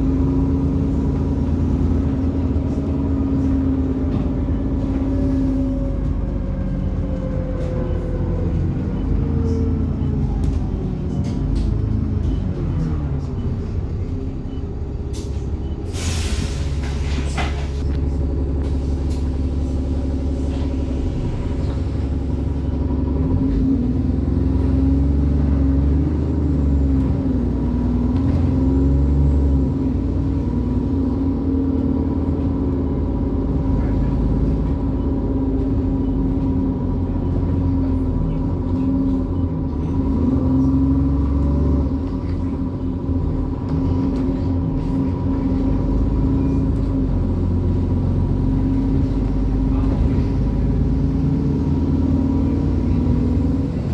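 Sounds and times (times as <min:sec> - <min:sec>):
bus engine droning: 0:00.0 - 0:53.9.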